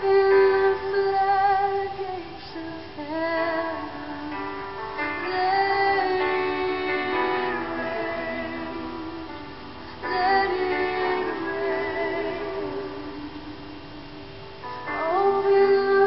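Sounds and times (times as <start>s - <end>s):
quiet band backing: 0.0s - 16.0s
woman singing: 0.0s - 16.0s.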